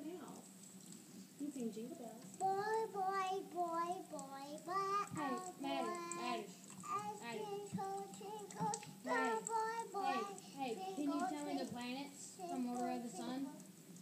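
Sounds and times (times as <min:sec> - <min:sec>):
girl singing: 0:02.4 - 0:13.7.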